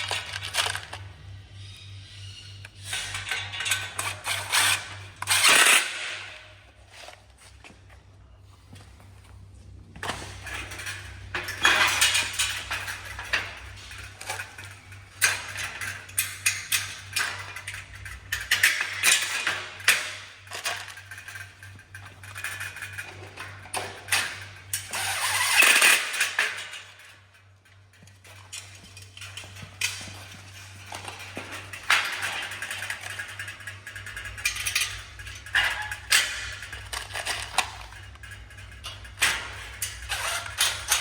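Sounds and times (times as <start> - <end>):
metal frame parts clattering: 0.0 - 7.1, 10.0 - 41.0
steady low hum: 0.0 - 41.0.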